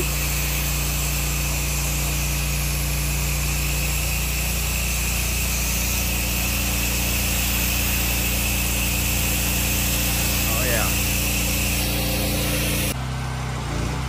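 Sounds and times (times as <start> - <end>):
spray hissing: 0.0 - 13.0
engine drone: 0.0 - 14.0.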